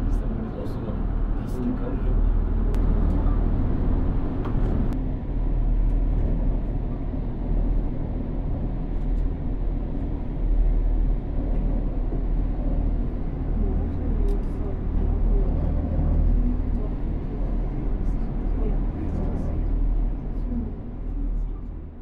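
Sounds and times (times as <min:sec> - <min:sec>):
cable car cabin rumble: 0:00.0 - 0:22.0.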